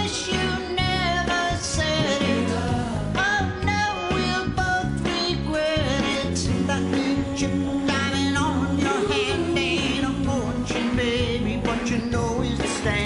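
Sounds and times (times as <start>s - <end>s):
live pop band playing: 0.0s - 13.0s
person singing: 0.0s - 13.0s.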